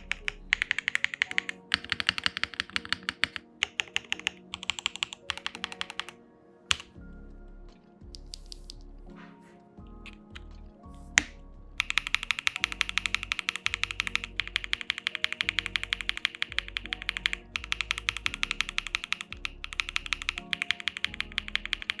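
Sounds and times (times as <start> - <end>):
mechanical keyboard typing: 0.0 - 7.0, 11.2 - 22.0
soft background music: 0.0 - 22.0.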